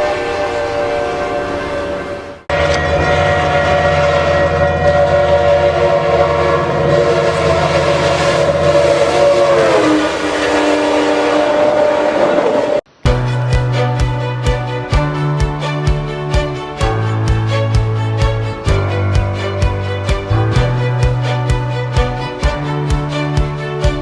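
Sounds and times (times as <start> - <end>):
train air horn blast: 0.0 - 24.0
train rumbling: 0.0 - 24.0.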